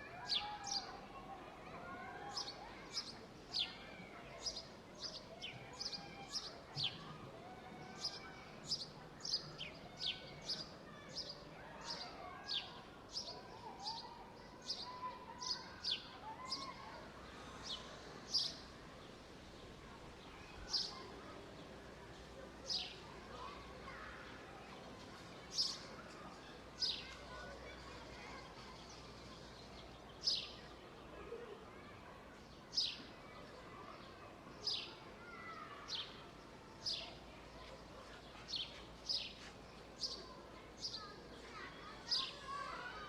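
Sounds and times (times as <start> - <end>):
faint park background hum: 0.0 - 43.0
songbirds chirping: 0.3 - 43.0.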